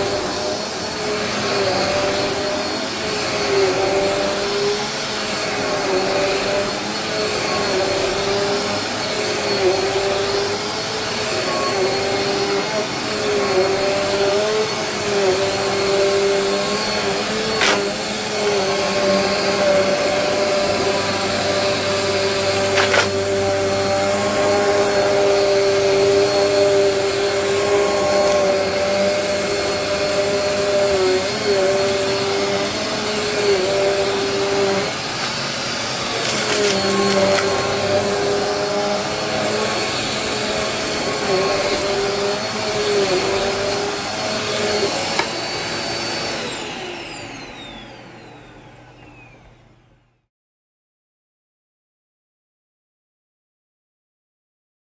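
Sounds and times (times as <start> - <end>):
vacuum cleaner on carpet: 0.0 - 50.2.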